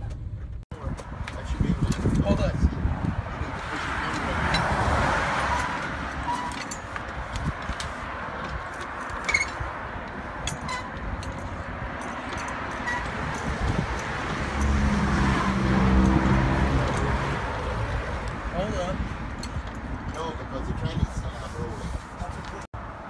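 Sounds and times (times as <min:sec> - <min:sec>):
vehicle noise: 0:00.0 - 0:23.0.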